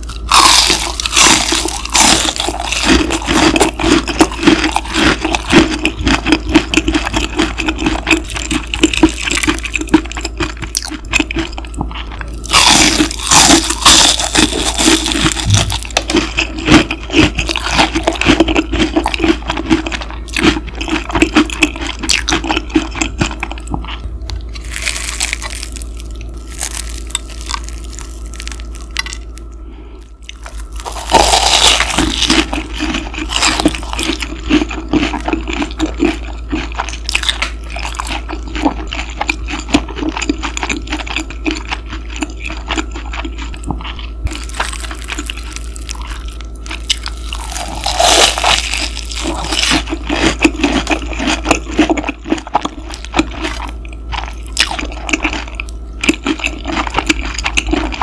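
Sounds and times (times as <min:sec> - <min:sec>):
crunching and chewing: 0:00.0 - 0:58.0
low mechanical hum: 0:00.0 - 0:58.0.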